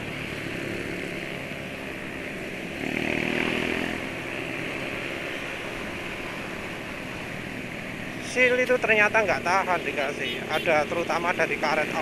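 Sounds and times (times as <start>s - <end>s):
motorcycle traffic: 0.0s - 12.0s.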